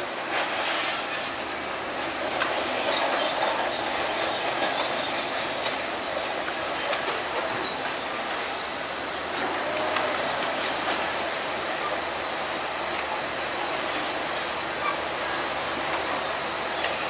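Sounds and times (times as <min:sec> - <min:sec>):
diesel engine: 0:00.0 - 0:17.0
crawler tracks clattering and squeaking: 0:00.3 - 0:17.0.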